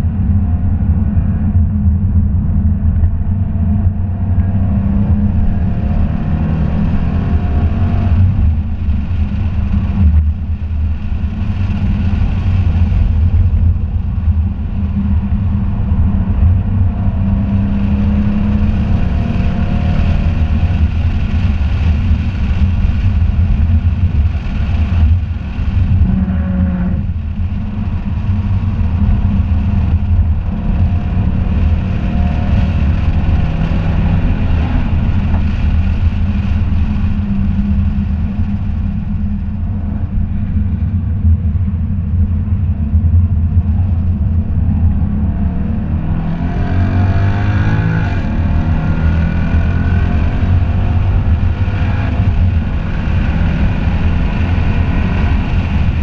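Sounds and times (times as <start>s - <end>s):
car engine revving in cabin: 1.2s - 56.0s.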